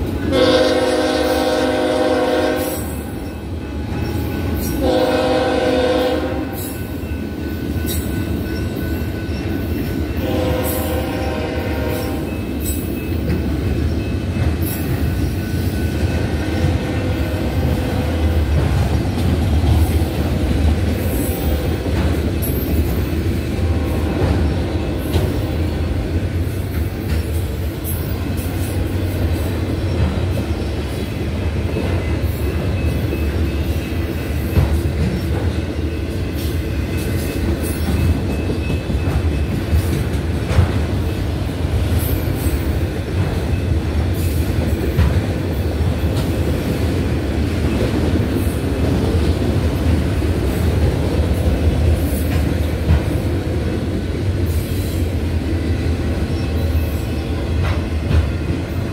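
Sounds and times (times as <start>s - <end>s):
steel wheels rumbling on rail: 0.0s - 58.9s
sharp knocks of rail cars: 3.9s - 54.7s, 57.3s - 58.9s.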